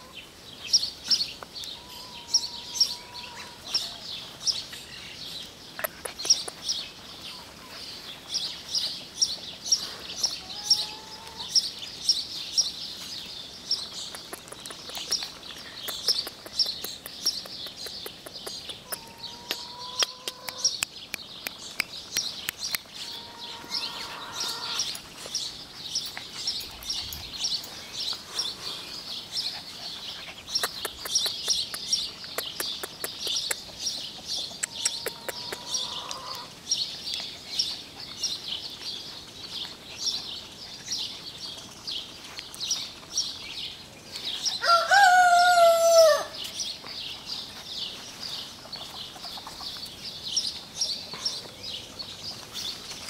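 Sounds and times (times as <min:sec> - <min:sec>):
birds chirping in chorus: 0:00.0 - 0:53.0.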